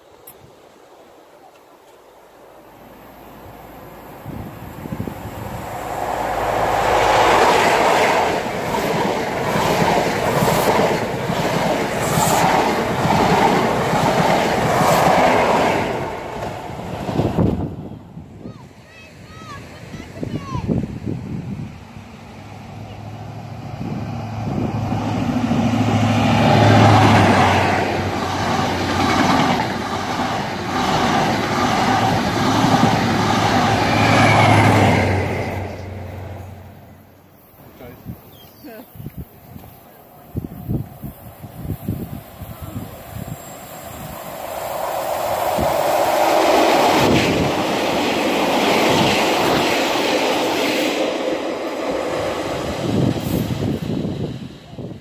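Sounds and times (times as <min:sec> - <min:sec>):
diesel train engine: 0:02.4 - 0:18.8, 0:20.9 - 0:38.0, 0:39.5 - 0:55.0
train coaches rushing by: 0:02.7 - 0:55.0.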